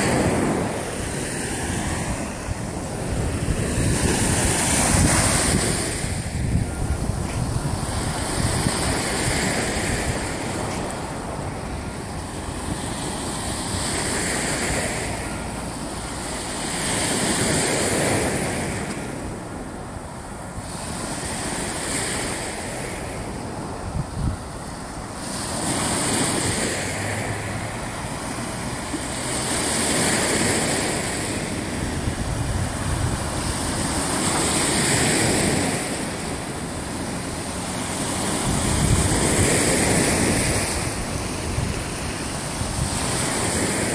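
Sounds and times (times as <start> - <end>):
lake waves washing in: 0.0 - 43.9
wind rumble on microphone: 0.0 - 43.9.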